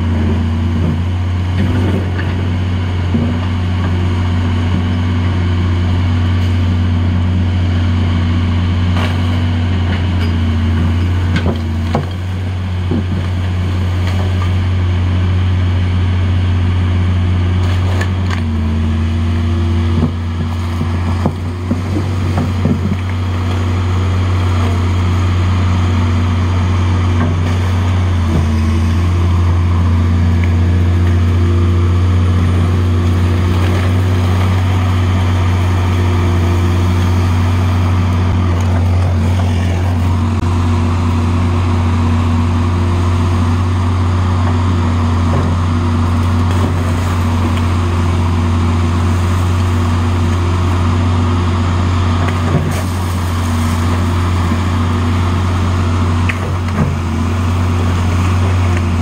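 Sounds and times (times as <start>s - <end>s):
engine droning: 0.0s - 59.0s
hydraulic digger arm working: 0.0s - 59.0s.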